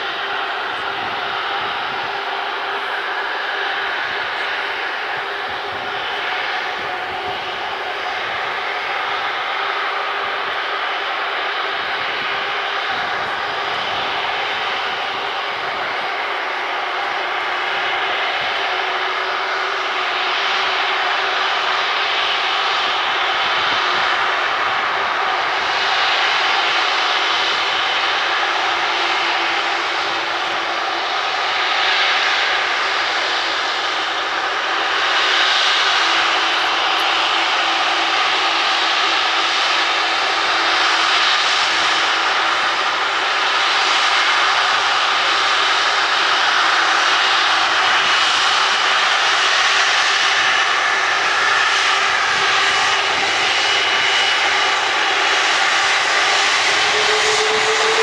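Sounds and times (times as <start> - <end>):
jet engines running at high power: 0.0 - 58.0.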